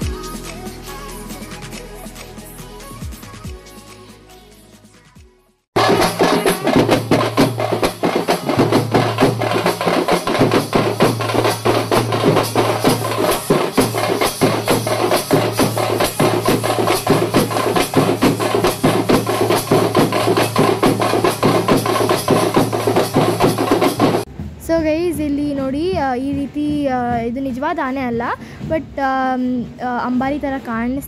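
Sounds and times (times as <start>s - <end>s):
rapid drum strokes: 0.0s - 4.1s, 5.8s - 29.0s.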